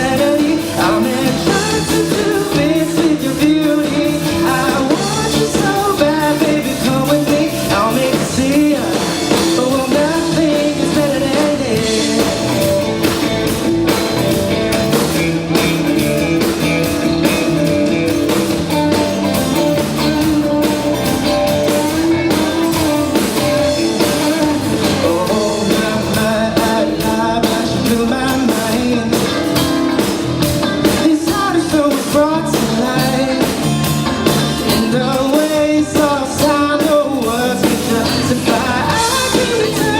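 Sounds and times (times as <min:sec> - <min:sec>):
lead vocalist singing: 0:00.0 - 0:39.9
live pop-rock band: 0:00.0 - 0:39.9.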